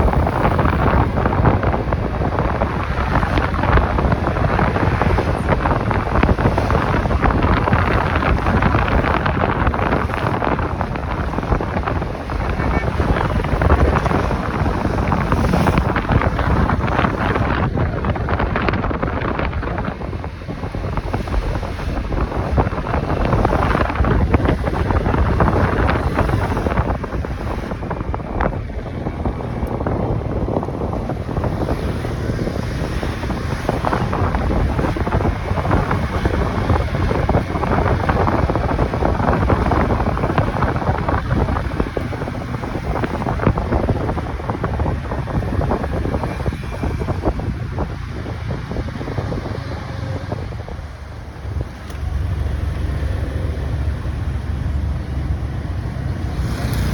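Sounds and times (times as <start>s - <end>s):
road noise: 0.0s - 56.9s
wind roaring over microphone: 0.0s - 56.9s.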